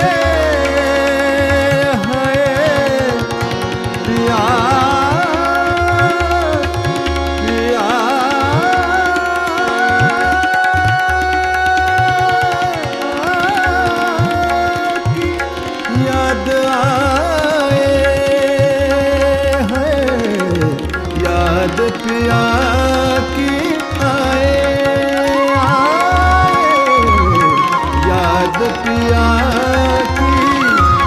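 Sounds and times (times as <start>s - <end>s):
harmonium sustained notes: 0.0s - 31.0s
man singing wordless phrases: 0.0s - 31.0s.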